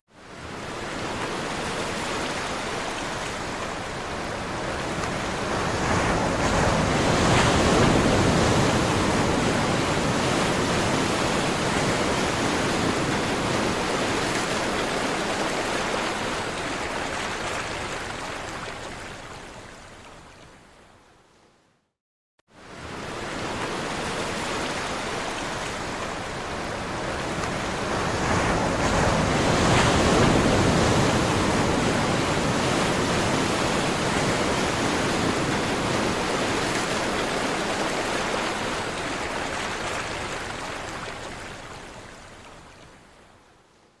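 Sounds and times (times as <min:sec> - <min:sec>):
waves washing ashore: 0:00.2 - 0:20.6, 0:22.5 - 0:43.4.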